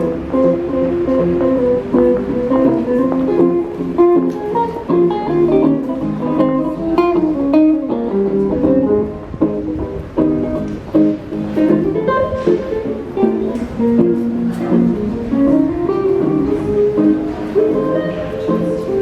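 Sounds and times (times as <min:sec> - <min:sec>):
guitar plucked notes: 0:00.0 - 0:19.0.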